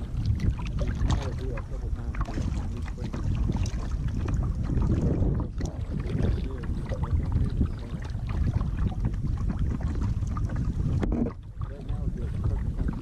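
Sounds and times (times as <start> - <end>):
paddle splashing in water: 0.0 - 13.0
wind buffeting microphone: 0.0 - 13.0.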